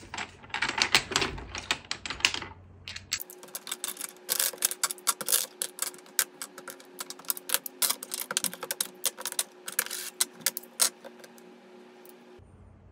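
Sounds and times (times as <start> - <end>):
game checkers clacking: 0.1 - 11.4.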